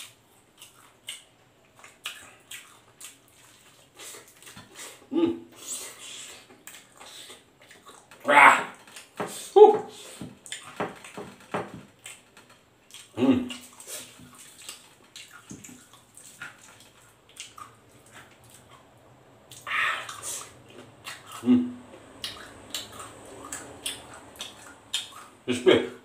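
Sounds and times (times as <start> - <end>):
chewing and lip-smacking: 0.0 - 25.5.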